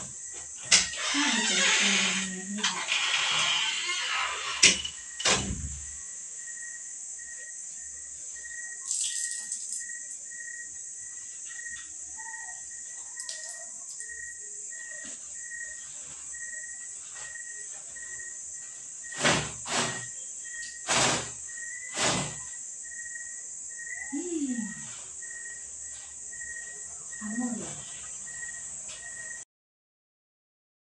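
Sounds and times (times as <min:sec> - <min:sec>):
faint insect chirping: 0:00.0 - 0:29.5.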